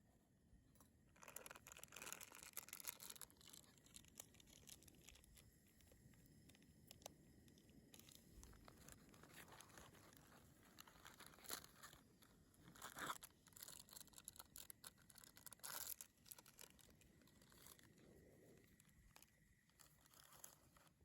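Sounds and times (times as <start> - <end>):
faint rustling and crinkling: 0.7 - 21.0.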